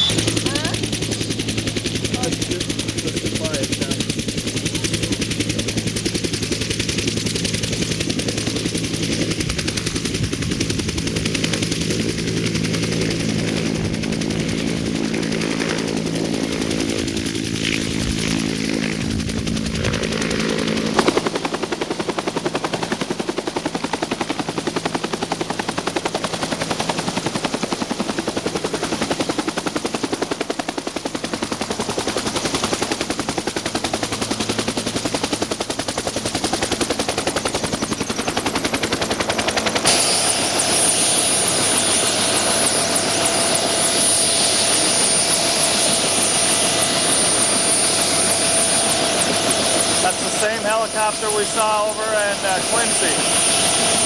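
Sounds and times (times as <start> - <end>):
helicopter rotor blades chopping: 0.0 - 54.0.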